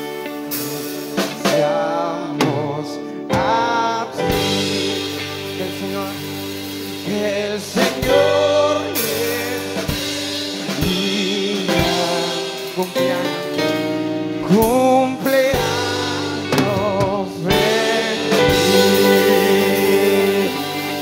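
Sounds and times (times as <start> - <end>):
band playing: 0.0 - 21.0
congregation singing: 0.0 - 21.0
strong lead voice singing: 0.0 - 21.0.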